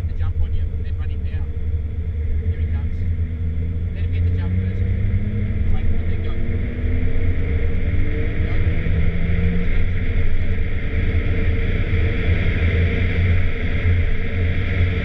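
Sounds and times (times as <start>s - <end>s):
car engine drone from inside cabin: 0.0s - 15.0s.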